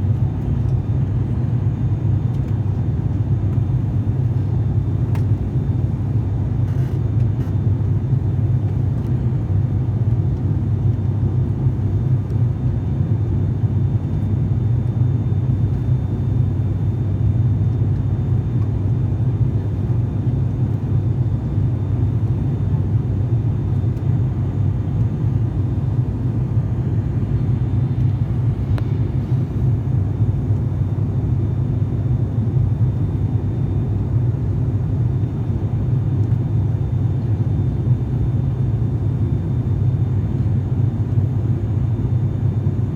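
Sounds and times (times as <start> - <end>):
airliner engine drone in cabin: 0.0 - 42.9.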